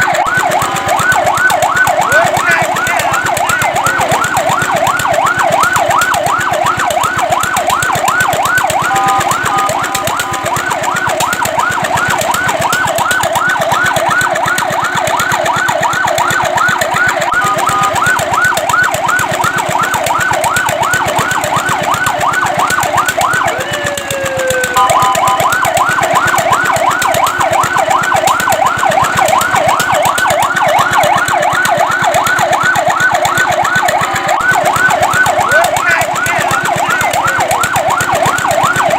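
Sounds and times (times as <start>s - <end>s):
steady chord-like siren tone: 0.0s - 23.6s, 24.7s - 38.9s
fire truck siren yelping: 0.0s - 38.9s.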